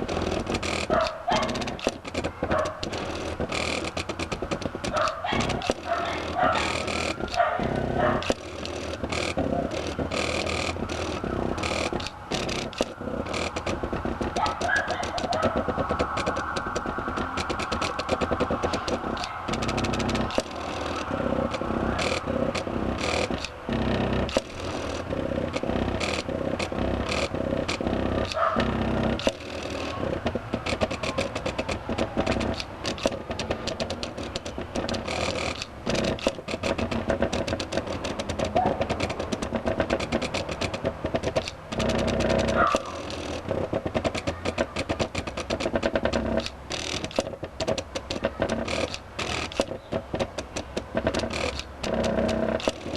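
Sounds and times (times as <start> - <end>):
stepper motors whining and ticking: 0.0 - 52.9.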